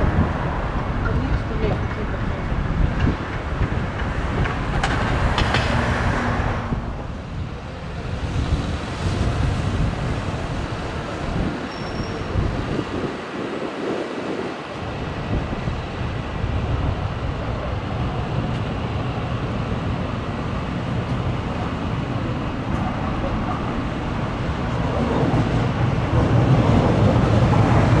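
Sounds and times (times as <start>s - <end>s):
electric train on rails: 0.0s - 28.0s.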